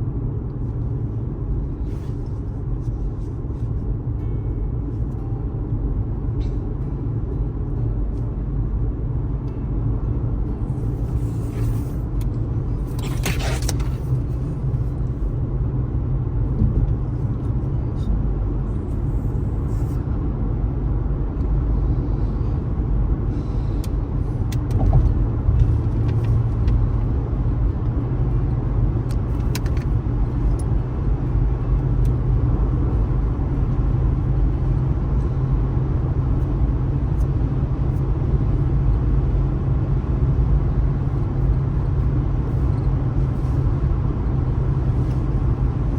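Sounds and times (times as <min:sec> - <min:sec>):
car road noise: 0:00.0 - 0:45.9.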